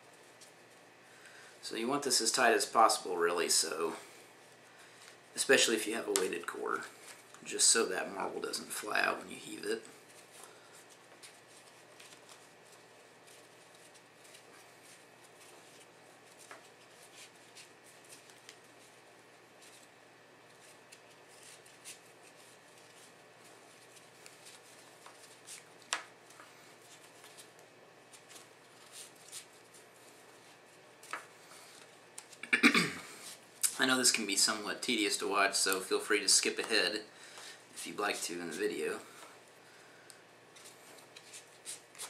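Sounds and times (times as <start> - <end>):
rope rustling and scuffing: 0.0 - 0.9, 1.9 - 32.4, 33.1 - 39.5, 40.4 - 42.0.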